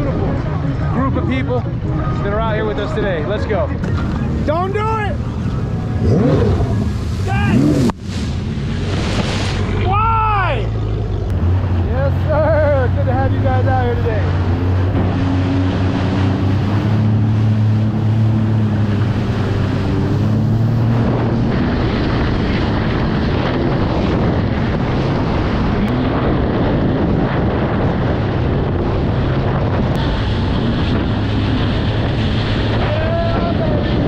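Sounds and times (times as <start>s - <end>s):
jet ski engine hum: 0.0s - 34.0s
wind buffeting microphone: 0.0s - 34.0s
water rushing: 3.1s - 34.0s.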